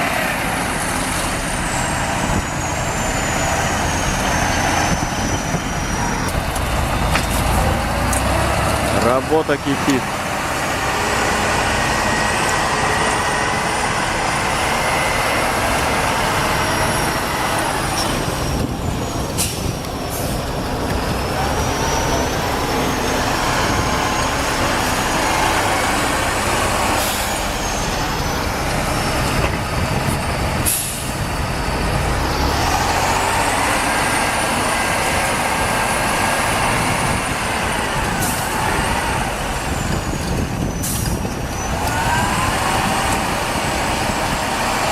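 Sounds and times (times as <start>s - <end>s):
heavy diesel engine under load: 0.0s - 44.9s
high engine whine: 0.0s - 44.9s.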